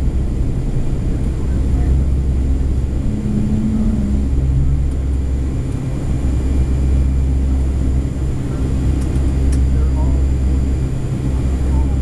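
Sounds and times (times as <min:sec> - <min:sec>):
faint hum: 0:00.0 - 0:12.0
jet engines and airflow in cabin: 0:00.0 - 0:12.0.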